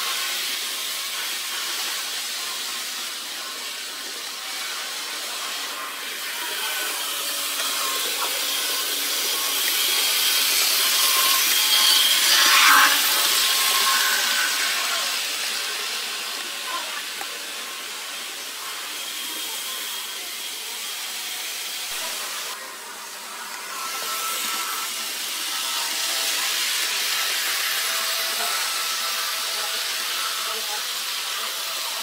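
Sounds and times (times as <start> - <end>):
model train whirring: 0.0 - 32.0.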